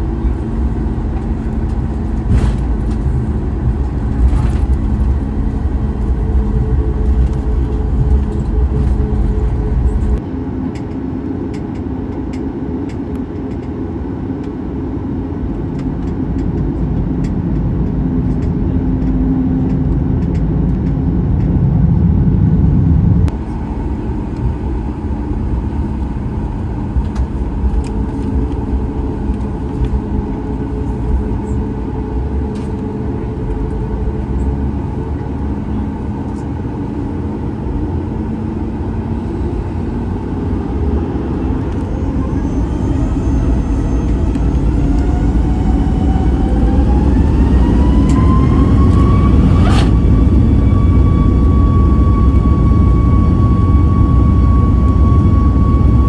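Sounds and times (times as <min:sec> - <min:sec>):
jet engines running: 0:00.0 - 0:56.0
low cabin rumble: 0:00.0 - 0:56.0.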